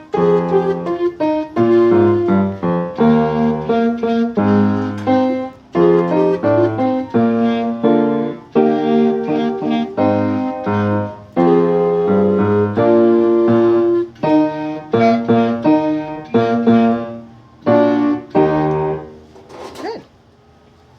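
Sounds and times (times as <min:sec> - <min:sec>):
piano melody over chords: 0:00.0 - 0:19.3.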